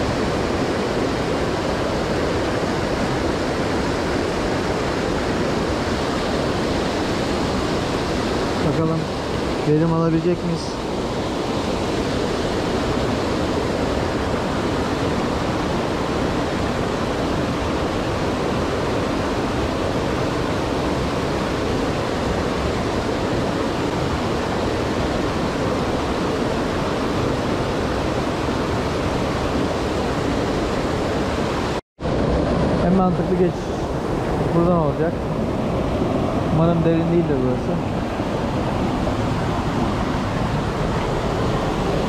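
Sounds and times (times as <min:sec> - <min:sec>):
rushing stream water: 0:00.0 - 0:42.0.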